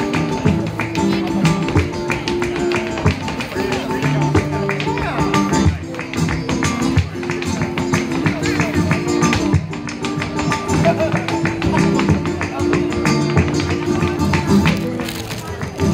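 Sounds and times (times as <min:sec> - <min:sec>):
acoustic guitar: 0:00.0 - 0:15.9
sharp percussive taps: 0:00.0 - 0:15.9.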